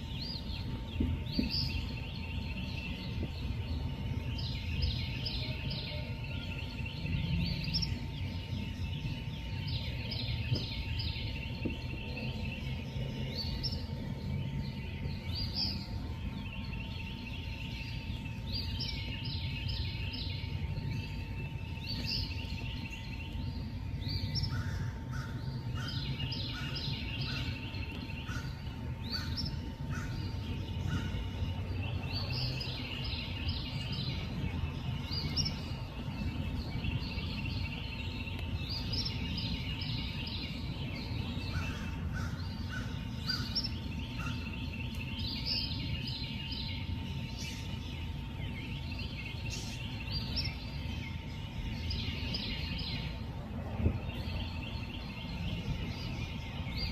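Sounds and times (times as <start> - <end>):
high chirping calls: 0.0 - 56.9.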